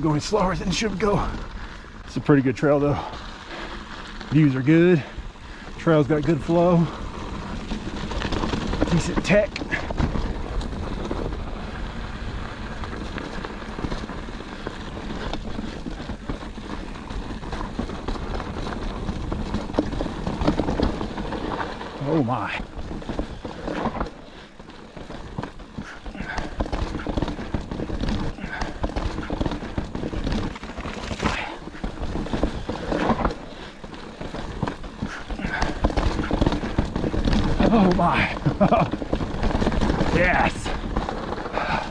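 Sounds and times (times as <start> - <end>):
bike tyres on dirt trail: 0.0 - 41.9
bike knocking on rough ground: 2.8 - 41.9.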